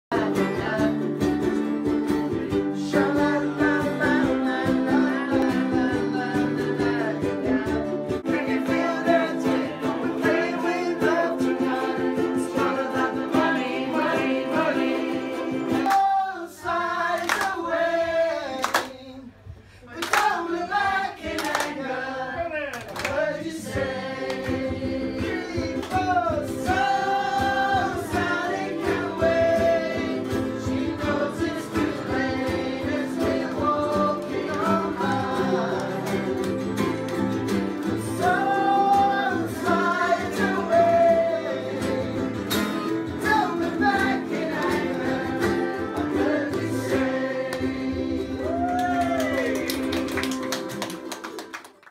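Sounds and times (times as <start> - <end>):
guitar: 0.0 - 19.4, 22.8 - 51.9
group singing: 0.1 - 1.6, 2.4 - 19.3, 19.9 - 51.0
ukuleles strumming: 0.1 - 51.8.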